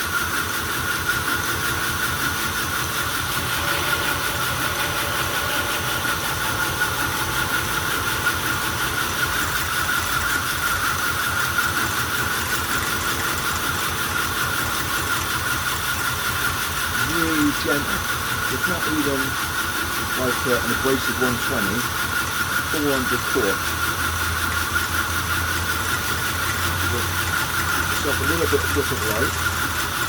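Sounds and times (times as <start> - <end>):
belt grinder whining: 0.0 - 30.0.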